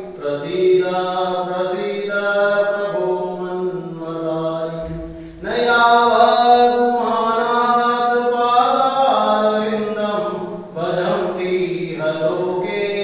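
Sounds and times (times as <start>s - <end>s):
group chanting in unison: 0.0s - 13.0s.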